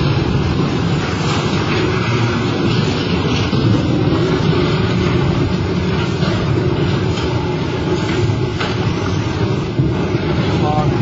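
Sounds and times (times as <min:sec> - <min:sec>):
heavy machinery rumbling: 0:00.0 - 0:11.0.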